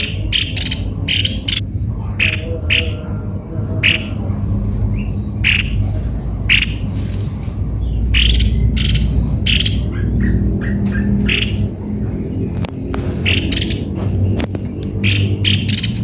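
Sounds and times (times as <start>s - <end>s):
harsh squawky bird calls: 0.0s - 16.0s
steady low rumble: 0.0s - 16.0s.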